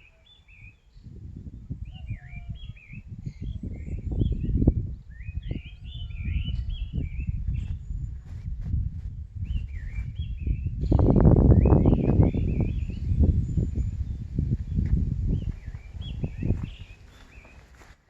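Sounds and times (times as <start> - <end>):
small birds chirping: 0.0 - 8.5, 9.1 - 17.9
wind buffeting microphone: 0.0 - 18.0.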